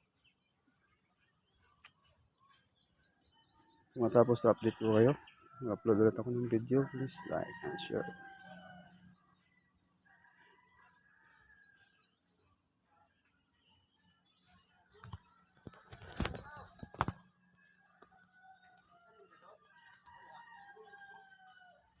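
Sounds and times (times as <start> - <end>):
faint birds chirping: 0.0 - 22.0.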